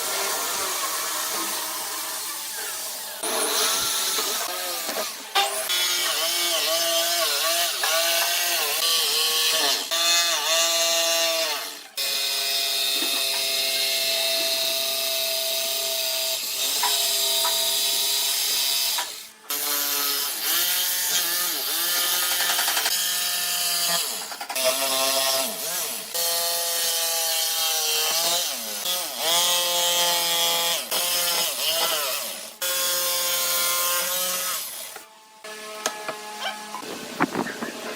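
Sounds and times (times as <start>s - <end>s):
electric power tool cutting wood: 0.0s - 37.9s.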